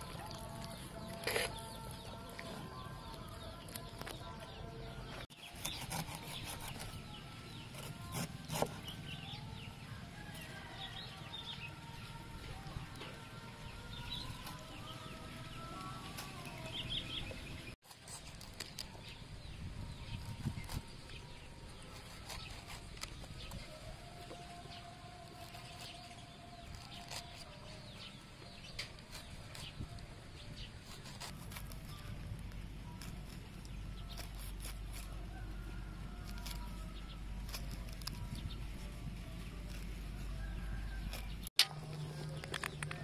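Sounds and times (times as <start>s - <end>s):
knife cutting and scraping pineapple: 0.0s - 43.0s.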